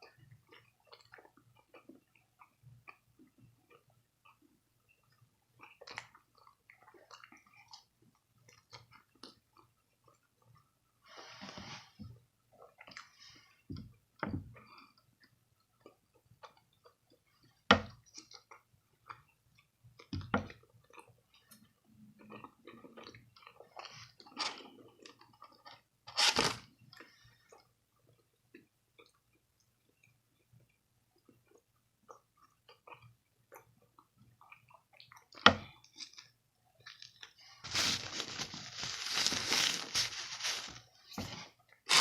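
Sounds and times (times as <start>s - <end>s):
person chewing and crunching food: 0.0s - 42.0s.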